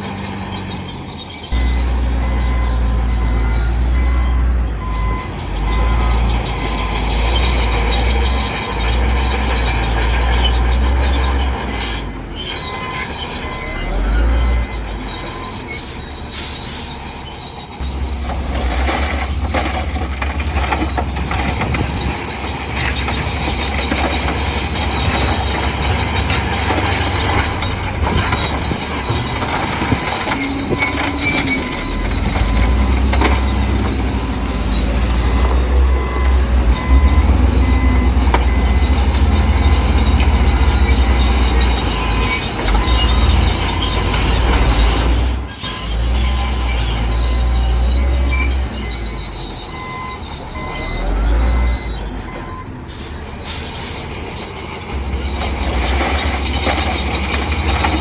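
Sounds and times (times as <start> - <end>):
bulldozer diesel engine rumbling: 0.0 - 58.0
metallic squealing and clanking: 0.0 - 58.0.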